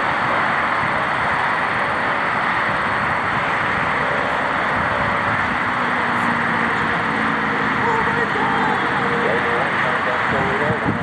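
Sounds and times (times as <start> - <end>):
fighter jet engine at takeoff: 0.0 - 11.0.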